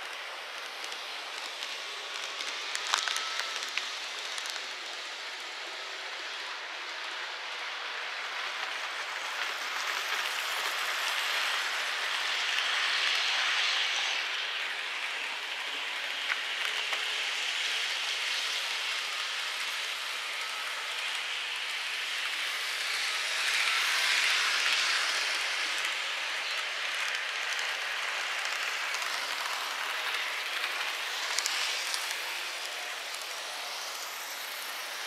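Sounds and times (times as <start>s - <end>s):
model train wheels rattling on rails: 0.0s - 35.0s.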